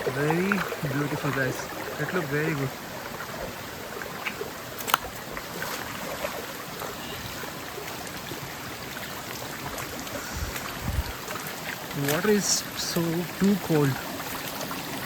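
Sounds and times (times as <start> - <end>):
stream trickling over stones: 0.0 - 15.0.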